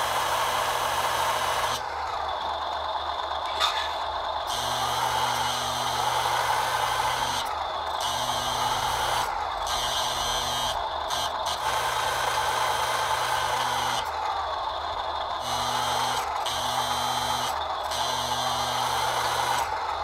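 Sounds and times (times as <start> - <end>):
model crane hydraulic pump running: 0.0 - 20.0.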